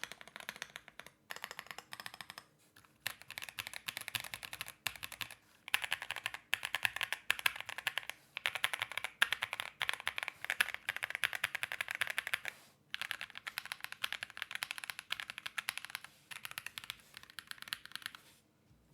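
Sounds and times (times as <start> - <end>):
fast mechanical keyboard typing: 0.0 - 2.4, 3.0 - 18.2.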